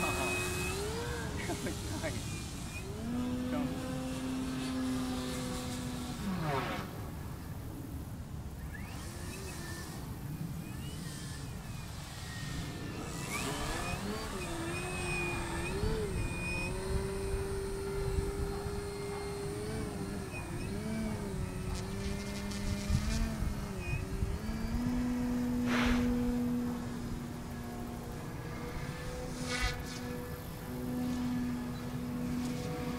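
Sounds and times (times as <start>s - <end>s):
radio-control plane motor and propeller: 0.0s - 32.9s
wind rumble on microphone: 0.0s - 32.9s.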